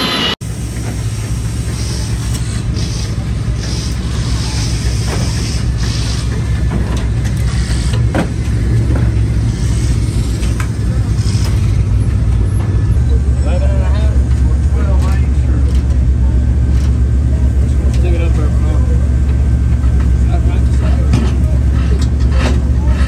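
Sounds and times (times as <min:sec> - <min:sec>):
racing engine idling: 0:00.0 - 0:23.0.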